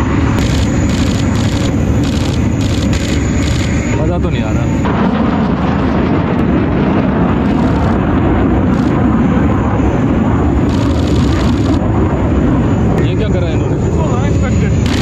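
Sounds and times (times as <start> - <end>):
jet aircraft roaring overhead: 0.0 - 15.0.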